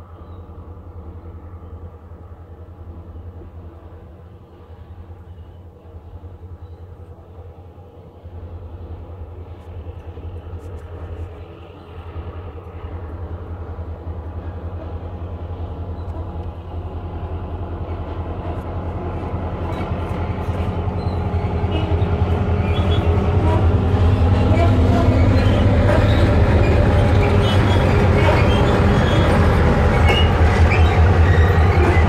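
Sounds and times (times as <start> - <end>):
locomotive engine drone: 0.0 - 32.0.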